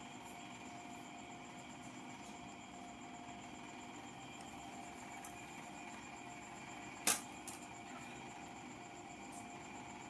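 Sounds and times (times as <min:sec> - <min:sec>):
faint hum and hiss: 0:00.0 - 0:10.0.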